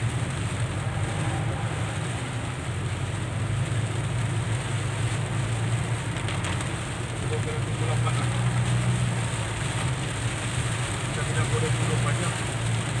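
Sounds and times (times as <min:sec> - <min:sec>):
car engine and tyres on wet road: 0:00.0 - 0:13.0
rain hissing on car roof: 0:00.0 - 0:13.0.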